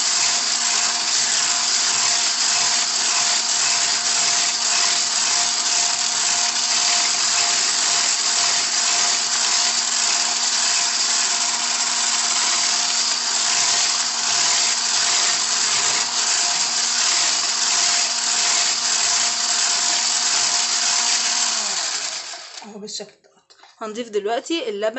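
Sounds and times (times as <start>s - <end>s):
electric hand mixer running: 0.0s - 22.8s.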